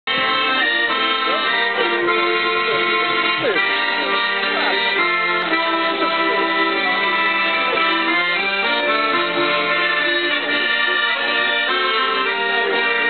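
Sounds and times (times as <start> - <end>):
accordion sustained chords: 0.1 - 13.0.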